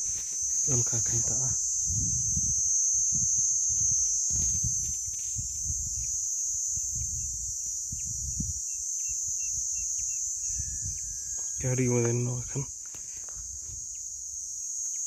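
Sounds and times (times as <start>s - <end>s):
wind rumble on microphone: 0.0s - 12.7s, 13.3s - 14.5s
high-pitched insect chorus: 0.0s - 15.0s.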